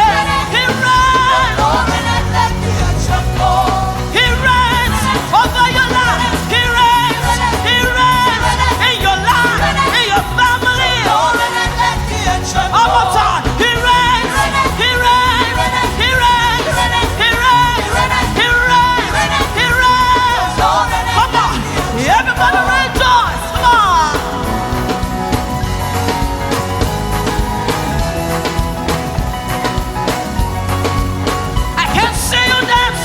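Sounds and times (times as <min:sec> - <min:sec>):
vocal line: 0:00.0 - 0:29.7
live praise band music: 0:00.0 - 0:33.0.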